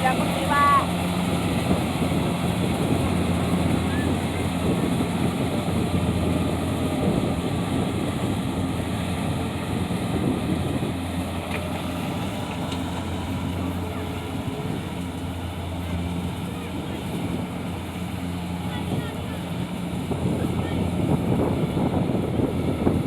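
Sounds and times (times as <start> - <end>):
small engine humming: 0.0 - 23.0.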